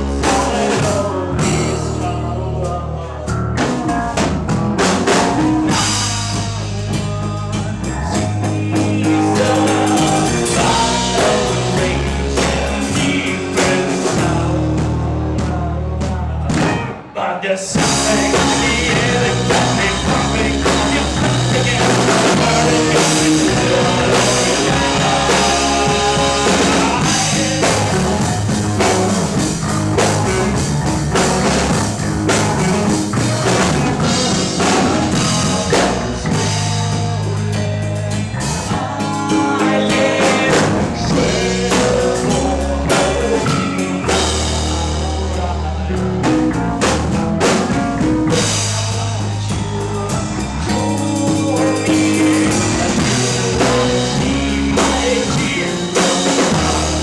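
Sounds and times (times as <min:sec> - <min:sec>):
person singing: 0:00.0 - 0:04.2, 0:04.8 - 0:30.6, 0:32.3 - 0:46.7, 0:47.4 - 0:57.0
drum kit: 0:00.0 - 0:17.1, 0:17.8 - 0:57.0
bass guitar: 0:00.0 - 0:57.0
electric guitars: 0:00.0 - 0:57.0.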